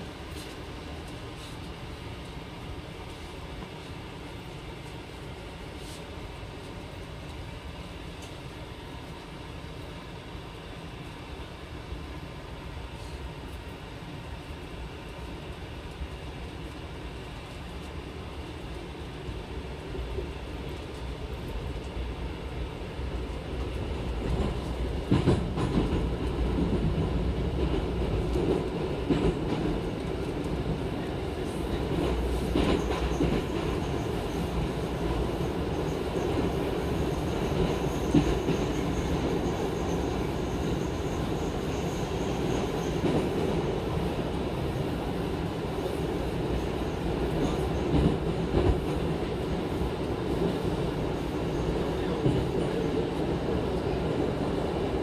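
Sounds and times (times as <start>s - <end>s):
train cabin running noise: 0.0s - 55.0s.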